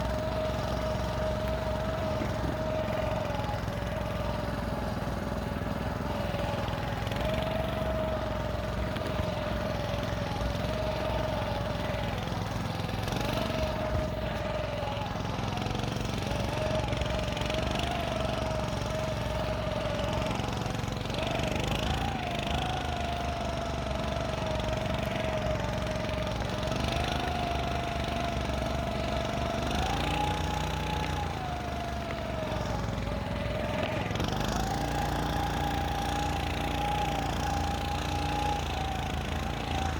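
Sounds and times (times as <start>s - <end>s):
snow scooter engine running: 0.0s - 39.9s.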